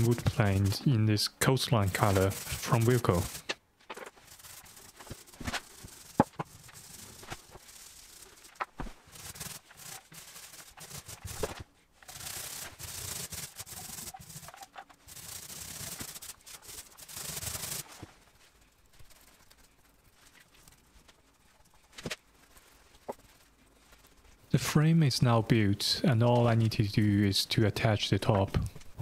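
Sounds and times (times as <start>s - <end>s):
paint roller swishing: 0.0s - 24.6s.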